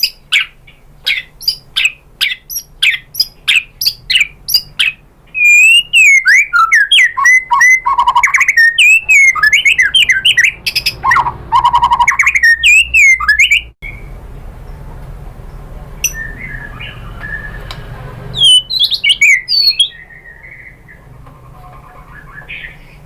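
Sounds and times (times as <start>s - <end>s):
bird call notes: 0.0s - 14.2s, 16.0s - 17.8s, 18.4s - 23.0s
bird song with whistles and trills: 0.0s - 14.2s, 16.0s - 23.0s.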